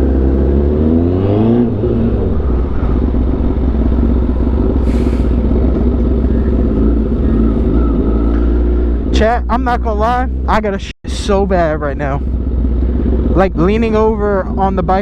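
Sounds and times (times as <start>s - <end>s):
motorcycle engine revving: 0.0s - 15.0s
road and wind noise: 0.0s - 15.0s.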